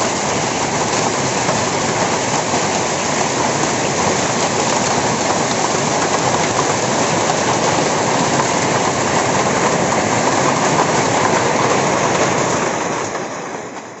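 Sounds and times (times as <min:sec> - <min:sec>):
hail and rain falling: 0:00.0 - 0:14.0.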